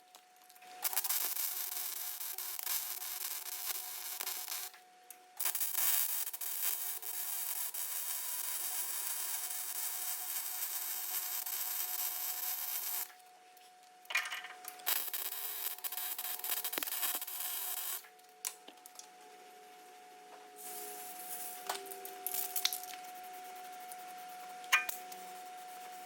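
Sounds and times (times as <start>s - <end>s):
faint welder hum: 0.0s - 26.0s
welding arc sizzling and crackling: 0.1s - 4.8s, 5.4s - 13.2s, 14.1s - 19.0s, 20.6s - 26.0s.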